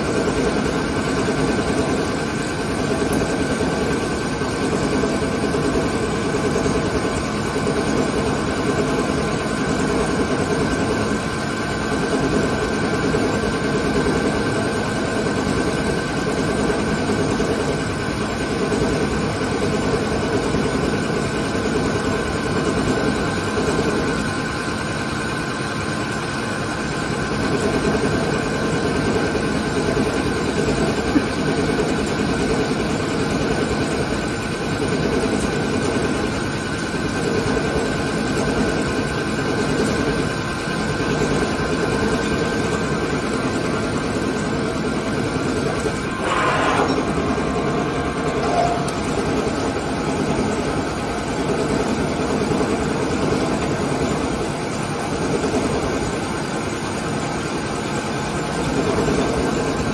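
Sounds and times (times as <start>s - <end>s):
lathe mechanical drone: 0.0s - 59.9s.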